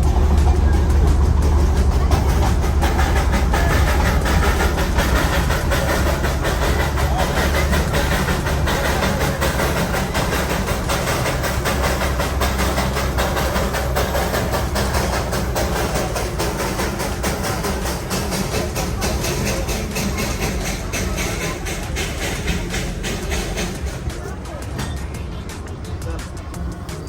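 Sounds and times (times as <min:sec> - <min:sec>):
toy train rumbling on track: 0:00.0 - 0:27.0
wheels clattering: 0:00.0 - 0:27.0.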